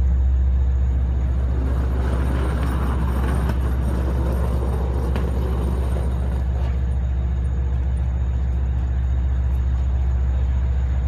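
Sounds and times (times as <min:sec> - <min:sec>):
diesel train engine drone: 0:00.0 - 0:11.0.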